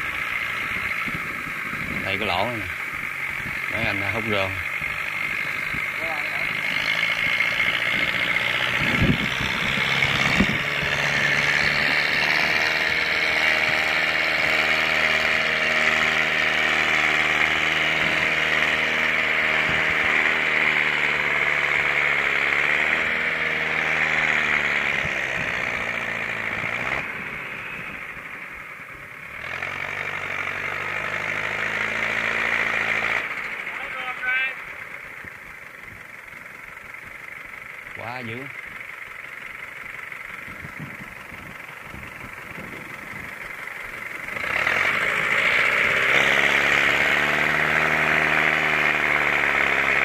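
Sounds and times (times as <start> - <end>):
diesel engines under load: 0.0 - 50.0.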